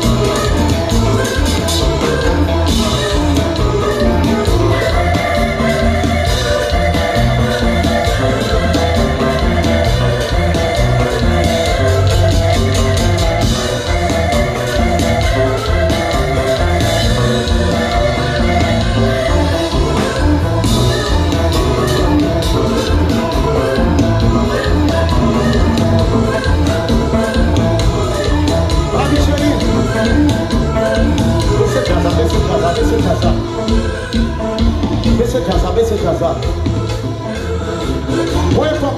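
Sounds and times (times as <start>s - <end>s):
drums: 0.0s - 38.9s
guitar: 0.0s - 38.9s
live band playing dance music: 0.0s - 38.9s.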